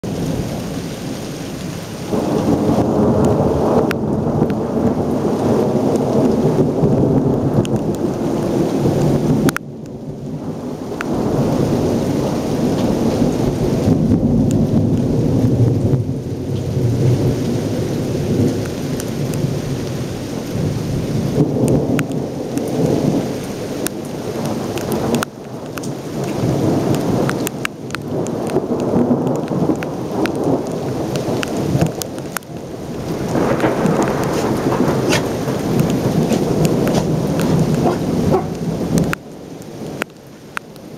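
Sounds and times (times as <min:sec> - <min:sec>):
thunder rumbling: 0:00.0 - 0:40.2
heavy rain: 0:00.0 - 0:40.9
raindrops striking camera: 0:00.0 - 0:40.9.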